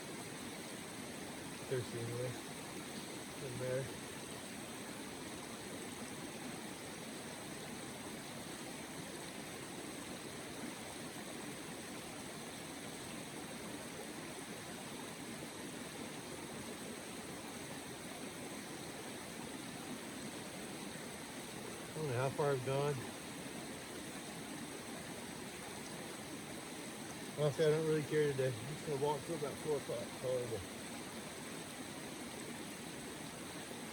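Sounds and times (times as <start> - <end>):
running water: 0.0 - 33.9.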